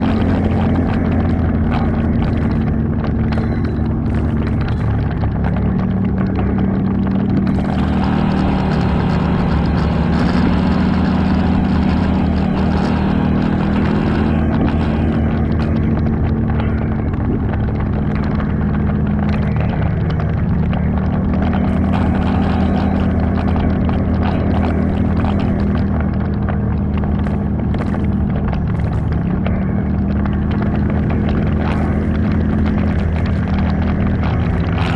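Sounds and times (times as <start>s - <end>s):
atv engine revving: 0.0s - 34.9s.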